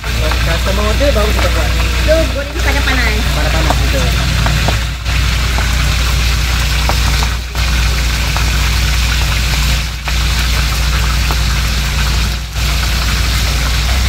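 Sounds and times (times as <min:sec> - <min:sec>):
fish sizzling in hot oil: 0:00.0 - 0:14.0
loud low hum: 0:00.0 - 0:14.0.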